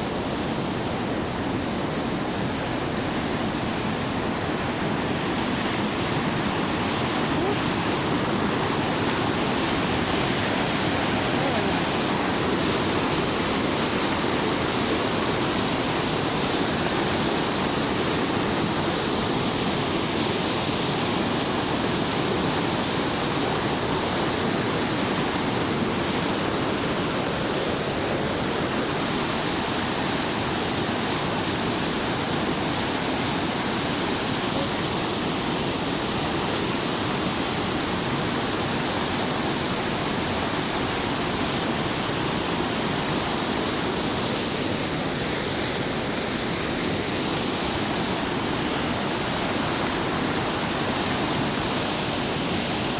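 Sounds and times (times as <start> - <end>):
water rushing along canal: 0.0 - 52.9.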